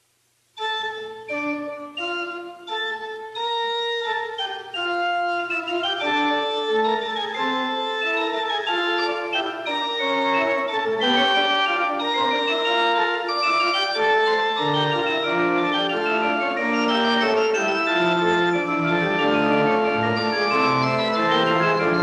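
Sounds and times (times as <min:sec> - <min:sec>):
organ playing: 0:00.6 - 0:22.0.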